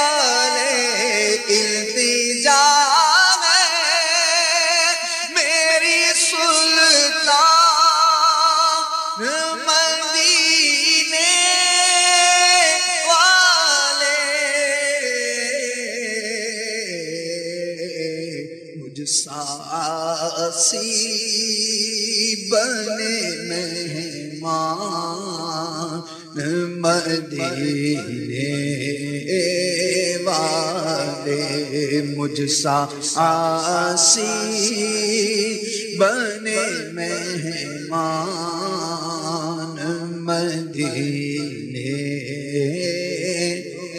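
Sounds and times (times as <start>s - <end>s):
person chanting melismatic recitation: 0.0s - 43.9s.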